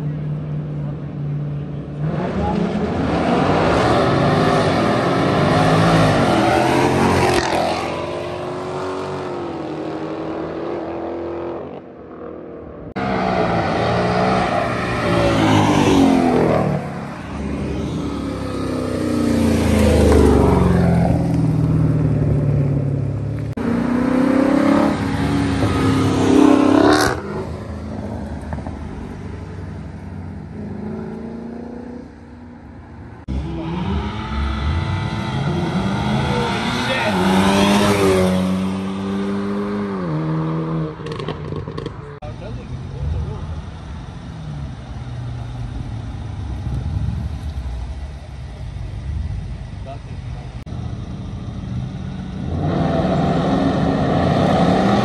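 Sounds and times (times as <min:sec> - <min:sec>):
cars accelerating past: 0:00.0 - 0:55.0.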